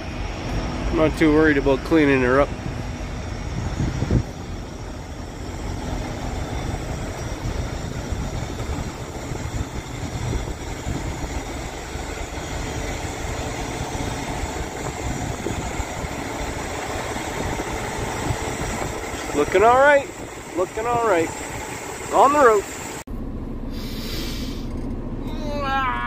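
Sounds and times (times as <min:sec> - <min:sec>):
heavy truck engine idling: 0:00.0 - 0:25.2.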